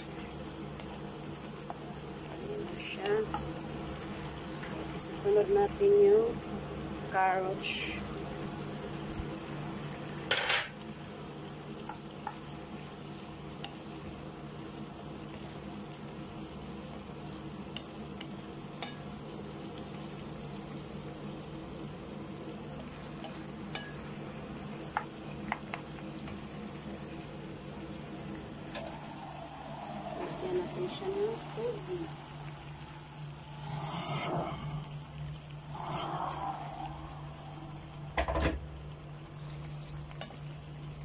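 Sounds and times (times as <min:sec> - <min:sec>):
vegetables sizzling in a pan: 0:00.0 - 0:41.0.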